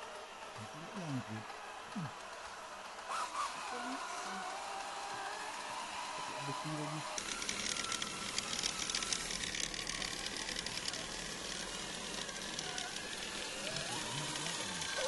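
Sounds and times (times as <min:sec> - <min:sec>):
small electric motor whining: 0:00.9 - 0:15.0.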